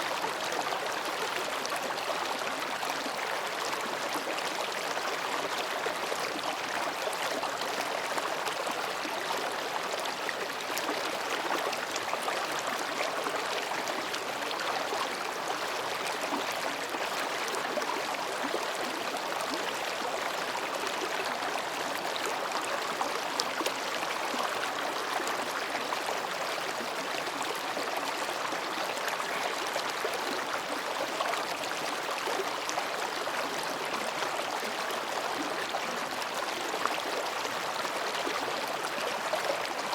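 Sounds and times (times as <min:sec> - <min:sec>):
stream babbling over rocks: 0:00.1 - 0:39.9.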